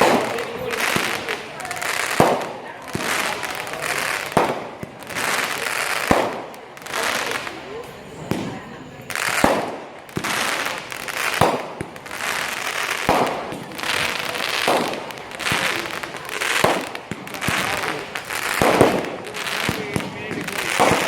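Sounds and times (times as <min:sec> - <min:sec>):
fireworks bangs: 0:00.0 - 0:21.0
fireworks crackling hiss: 0:00.0 - 0:21.0.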